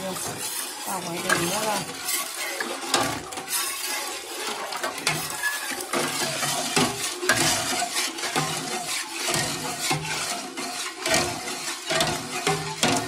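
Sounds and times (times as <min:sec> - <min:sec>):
ladle scraping and clinking pot: 0:00.0 - 0:13.0
liquid sloshing: 0:00.0 - 0:13.0.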